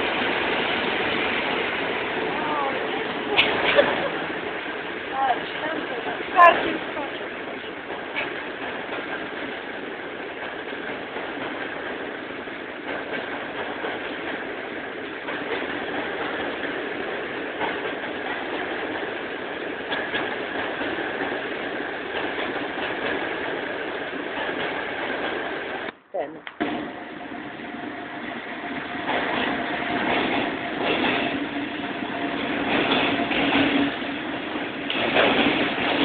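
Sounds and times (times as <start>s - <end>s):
train running noise: 0.0s - 36.0s.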